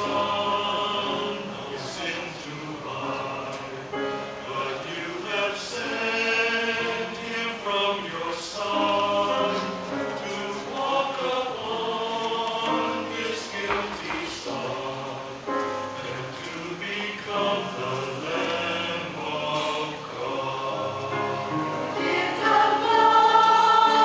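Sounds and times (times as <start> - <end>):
mixed choir singing: 0.0 - 24.0.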